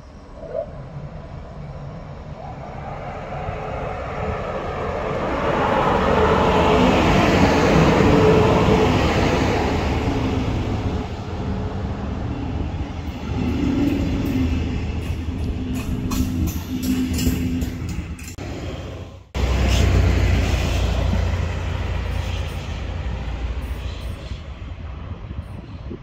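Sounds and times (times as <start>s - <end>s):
train rumble and rail noise: 0.0s - 26.0s
train whine: 0.0s - 26.0s.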